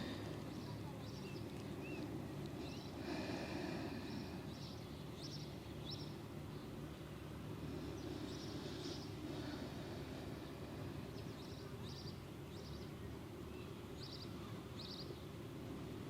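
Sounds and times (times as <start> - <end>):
low outdoor background hum: 0.0 - 16.0
small birds chirping: 0.0 - 16.0.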